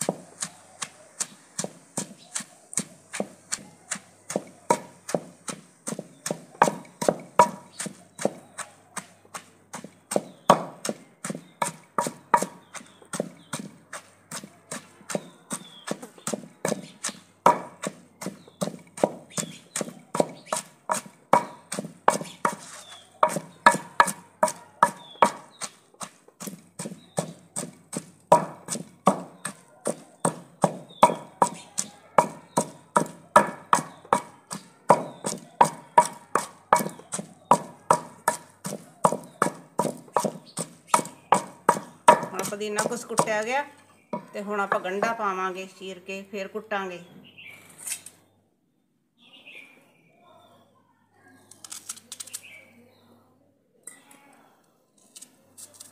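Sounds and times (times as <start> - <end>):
pestle pounding in clay mortar: 0.0 - 45.4.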